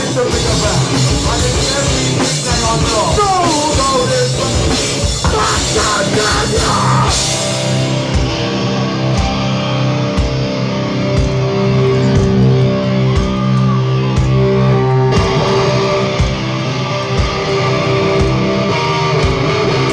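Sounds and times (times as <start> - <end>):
distorted electric guitars: 0.0 - 19.9
drum kit: 0.0 - 19.9.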